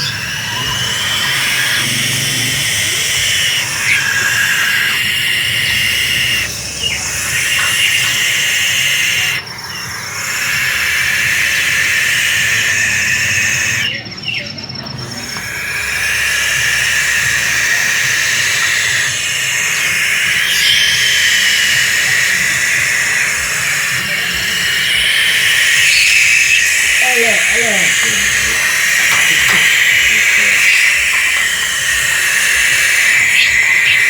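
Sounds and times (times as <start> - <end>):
young owl rasping hisses: 0.0 - 13.9, 15.1 - 34.0.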